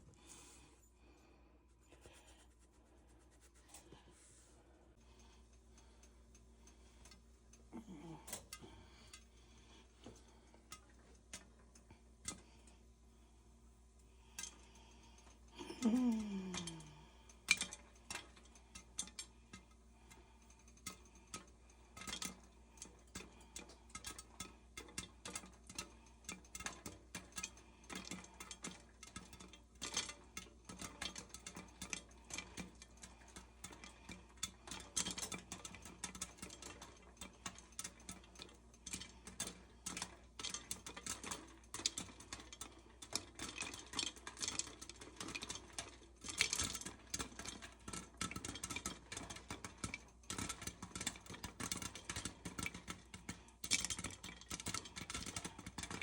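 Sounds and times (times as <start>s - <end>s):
light clicks and clatter: 4.9s - 12.8s, 14.0s - 56.0s.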